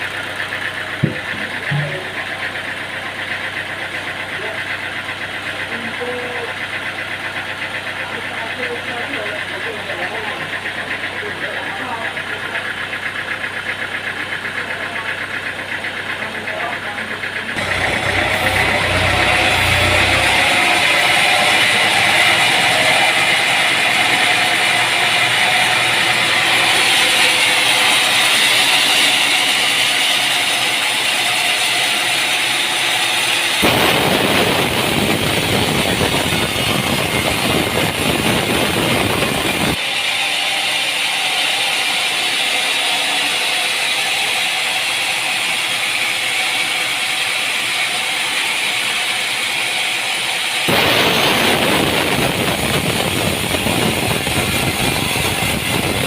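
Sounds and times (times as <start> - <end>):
deep coarse machine noise: 0.0 - 56.0
sawmill machinery rattling: 0.0 - 56.0.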